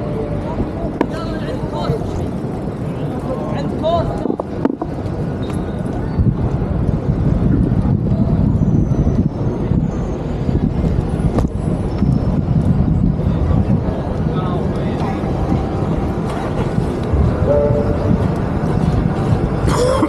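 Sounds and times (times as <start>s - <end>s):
traffic going by: 0.0s - 20.0s
wind buffeting microphone: 0.0s - 20.0s.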